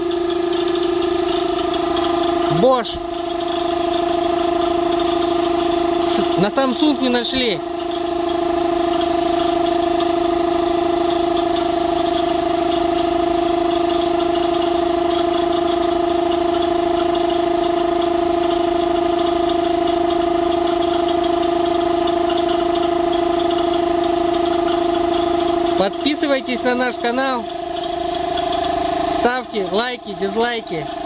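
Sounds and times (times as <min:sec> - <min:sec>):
air compressor running: 0:00.0 - 0:31.0.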